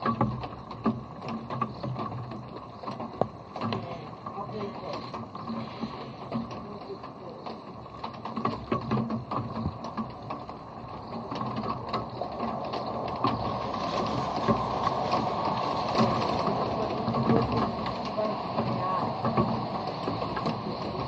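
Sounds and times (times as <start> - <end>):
rain hiss: 0.0 - 21.0
raindrops ticking on camera: 0.0 - 21.0.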